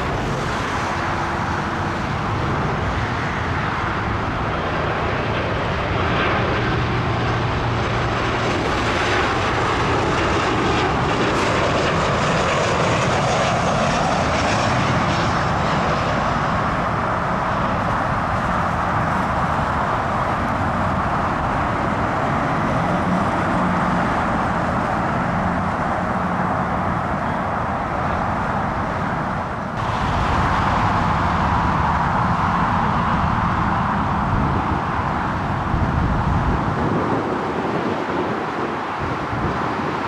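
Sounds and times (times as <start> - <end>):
jet airliner engines running: 0.0 - 40.0.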